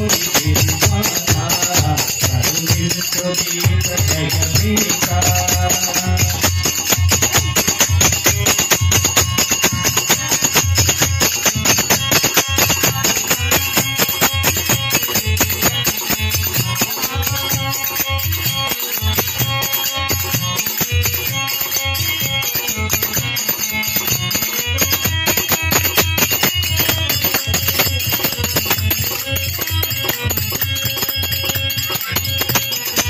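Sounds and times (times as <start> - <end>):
barrel drum beat: 0.0 - 33.0
hand cymbals clashing: 0.0 - 33.0
harmonium holding notes: 0.0 - 33.0.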